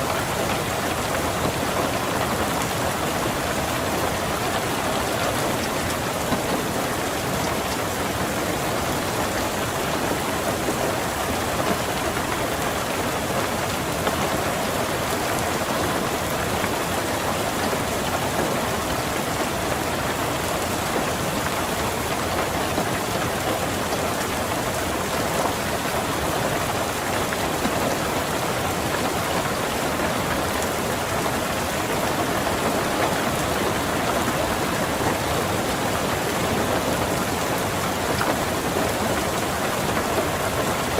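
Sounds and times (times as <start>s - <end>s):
rain on a car roof: 0.0s - 40.9s.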